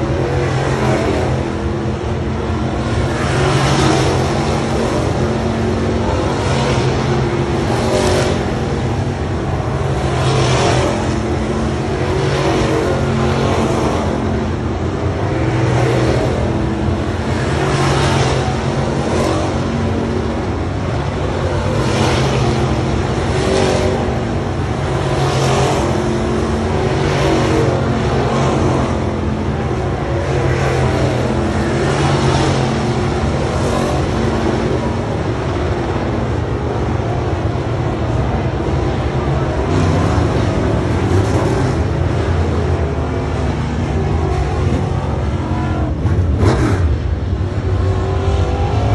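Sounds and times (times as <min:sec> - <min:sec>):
race car engines passing: 0:00.0 - 0:48.9.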